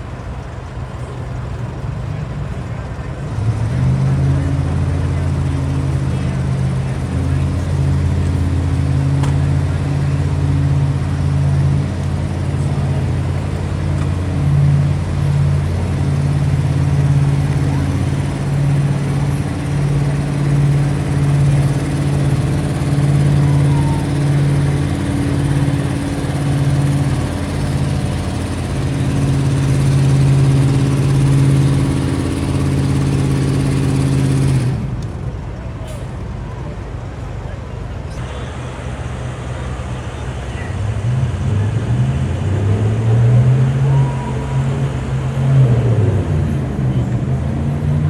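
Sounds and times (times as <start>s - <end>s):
deep engine tone: 0.0s - 48.0s
truck engines running: 0.0s - 48.0s.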